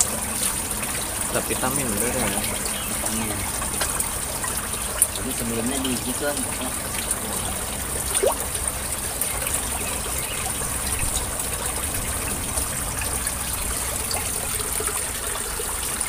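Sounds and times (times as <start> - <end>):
water pouring into pond: 0.0 - 16.0.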